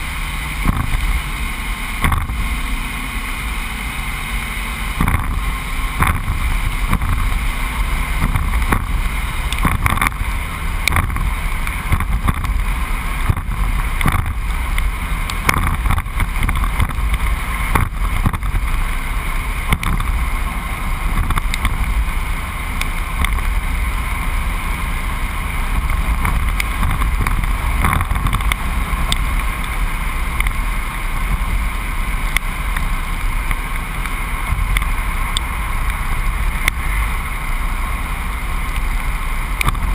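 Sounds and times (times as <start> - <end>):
truck driving rumble: 0.0 - 39.9.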